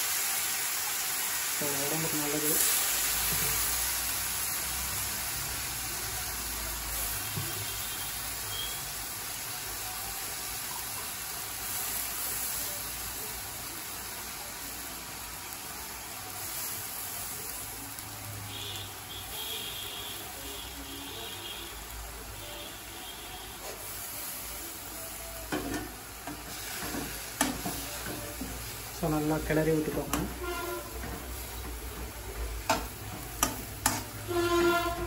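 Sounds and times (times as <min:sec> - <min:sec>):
onions sizzling in hot oil: 0:00.0 - 0:35.0.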